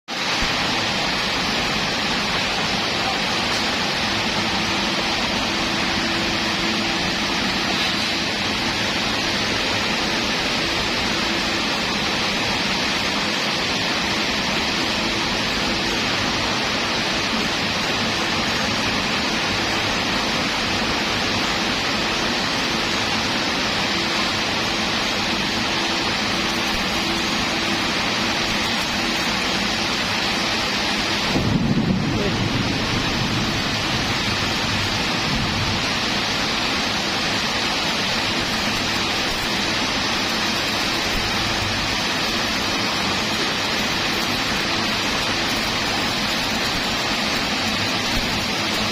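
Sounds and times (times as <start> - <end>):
welding arc crackling and hissing: 0.1 - 48.9.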